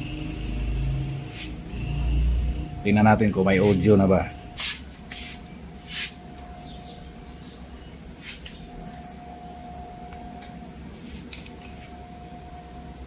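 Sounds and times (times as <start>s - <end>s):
amplifier hum and hiss: 0.0s - 13.0s
faint steady tone: 0.0s - 13.0s.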